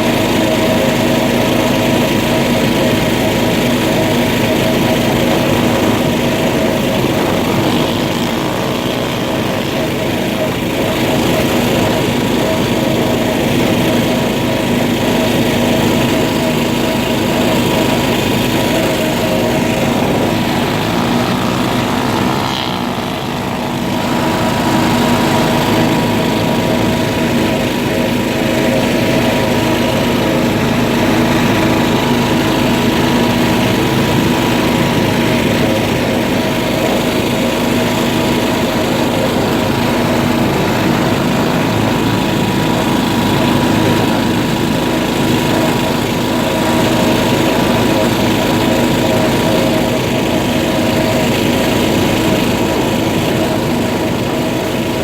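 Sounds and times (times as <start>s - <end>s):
small vehicle engine running: 0.0s - 55.0s.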